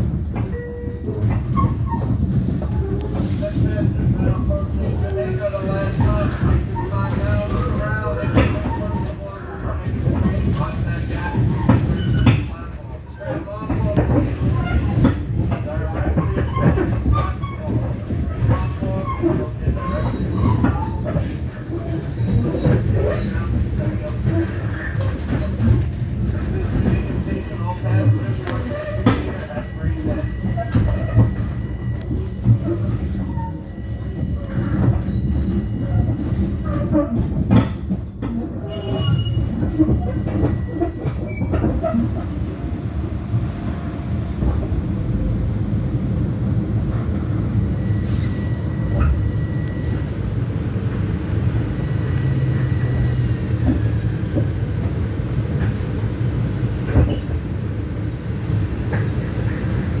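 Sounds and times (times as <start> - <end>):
electric train rumbling: 0.0 - 60.0.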